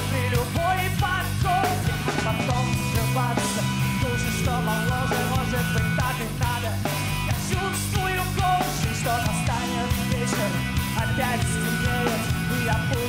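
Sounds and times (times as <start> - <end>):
drums beating: 0.0 - 13.0
electric guitars: 0.0 - 13.0.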